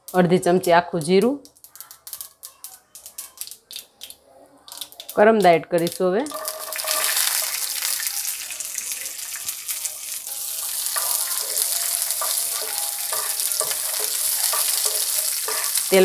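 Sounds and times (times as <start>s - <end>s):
hot oil sizzling: 1.6s - 16.0s.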